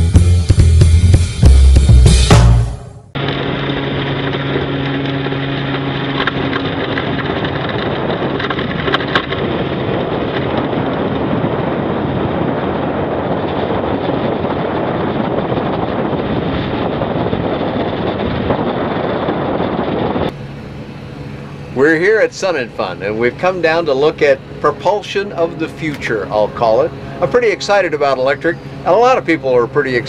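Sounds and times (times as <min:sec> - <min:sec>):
wind rushing over microphone: 0:03.1 - 0:30.0
electric motor hum: 0:03.2 - 0:30.0.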